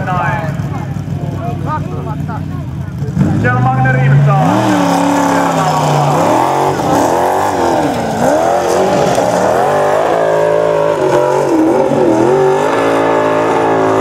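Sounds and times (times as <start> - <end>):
buggy engine revving hard: 0.0 - 14.0.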